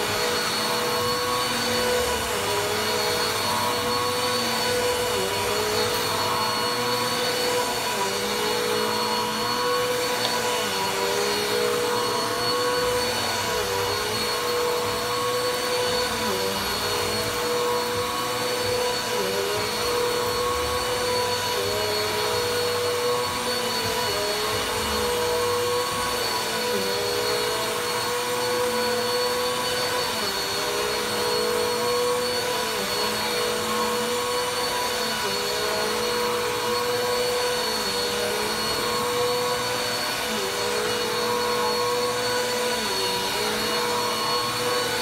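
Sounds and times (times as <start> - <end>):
vacuum cleaner motor whine: 0.0 - 45.0.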